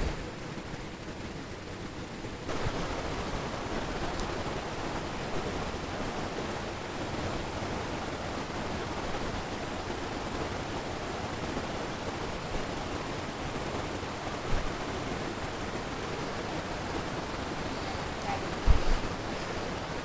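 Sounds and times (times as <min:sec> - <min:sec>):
stream rapids rushing: 0:00.0 - 0:20.0.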